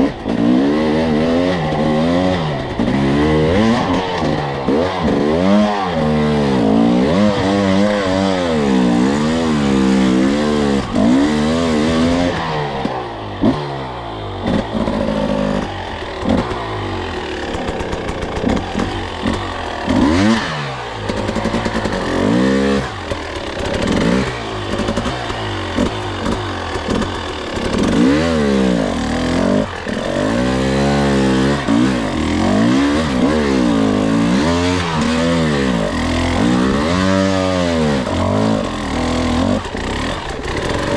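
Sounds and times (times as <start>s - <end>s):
two-stroke dirt bike engine revving: 0.0s - 40.9s.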